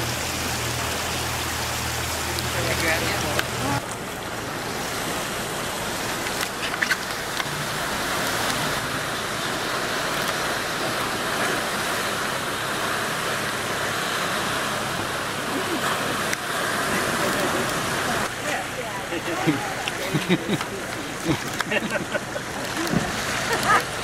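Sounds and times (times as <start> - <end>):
surf against rocky shore: 0.0 - 24.0.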